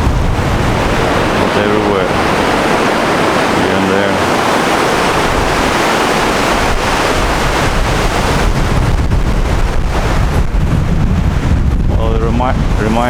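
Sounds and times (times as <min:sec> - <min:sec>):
surf washing on shore: 0:00.0 - 0:13.0
wind buffeting microphone: 0:00.0 - 0:13.0.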